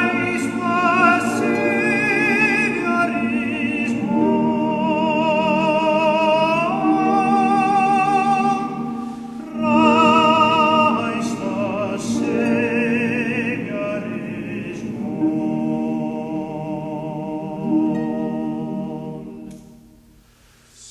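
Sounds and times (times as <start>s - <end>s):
high voice singing with vibrato: 0.0s - 19.7s
steady lower tones: 0.0s - 20.9s.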